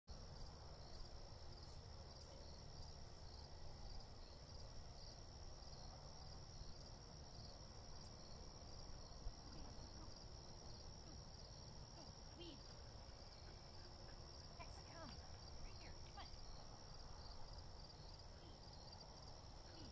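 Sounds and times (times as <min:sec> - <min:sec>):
crickets trilling: 0:00.1 - 0:19.9.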